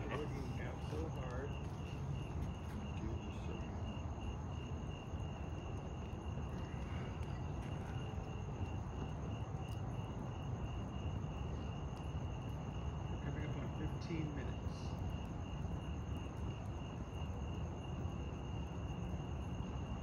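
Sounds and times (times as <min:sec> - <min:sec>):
crickets chirping: 0:00.0 - 0:20.0
high insect trill: 0:00.0 - 0:20.0.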